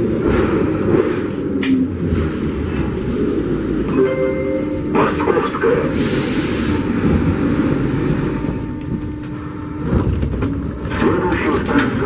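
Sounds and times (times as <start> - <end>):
train rumbling in tunnel: 0.0 - 12.0.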